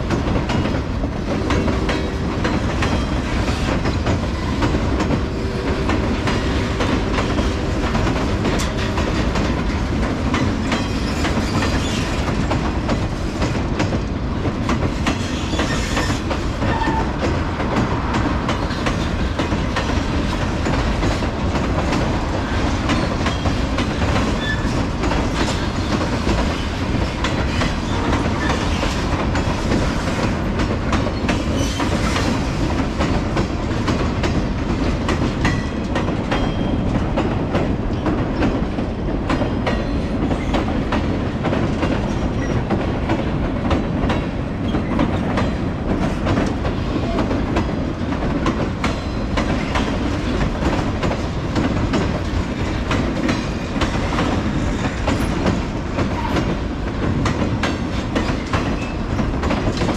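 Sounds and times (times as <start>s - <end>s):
train rolling over trestle: 0.0s - 59.9s
wheels clicking over rail joints: 0.0s - 59.9s.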